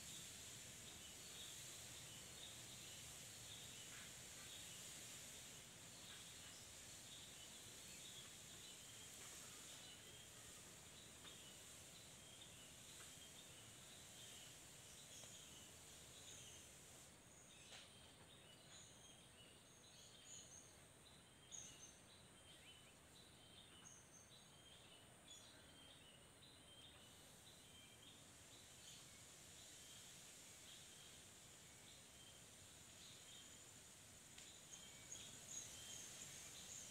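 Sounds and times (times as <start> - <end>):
high hum of insects: 0.0 - 36.9
small birds chirping: 0.0 - 36.9.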